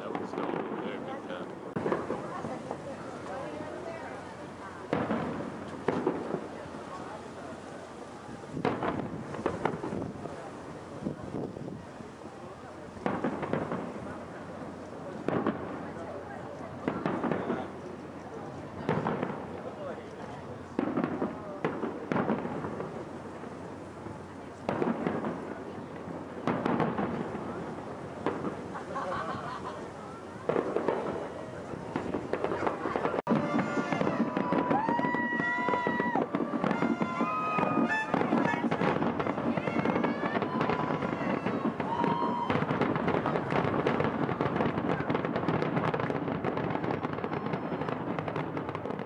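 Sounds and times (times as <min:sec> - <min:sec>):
fireworks booming with echo: 0:00.0 - 0:49.0.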